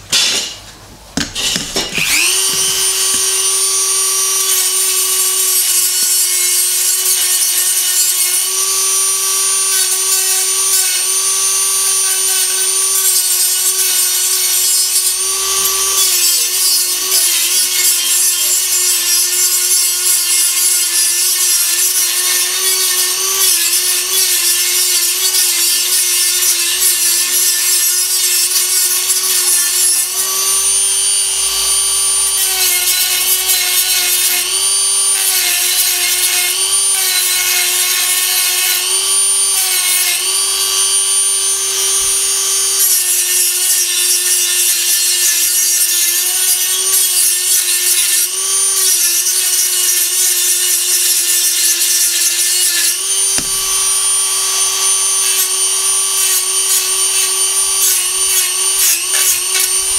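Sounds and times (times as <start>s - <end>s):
cut-off wheel grinding steel: 0.0s - 59.9s
rotary tool motor whine: 1.2s - 59.9s.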